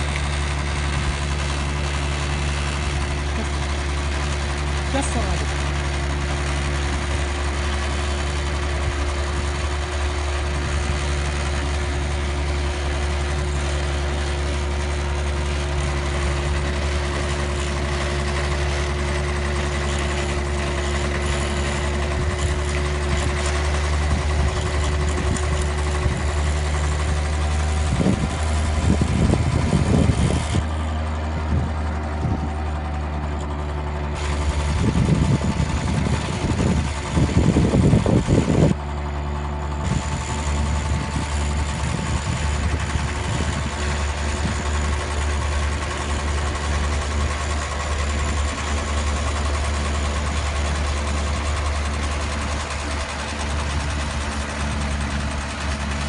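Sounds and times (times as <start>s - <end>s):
small car engine running: 0.0s - 56.0s.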